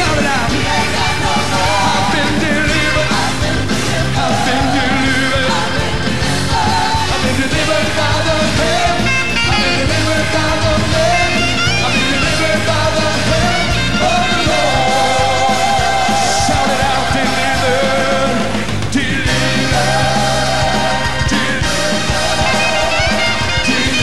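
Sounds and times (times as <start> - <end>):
band playing gospel music: 0.0 - 24.0
voices singing: 0.0 - 24.0.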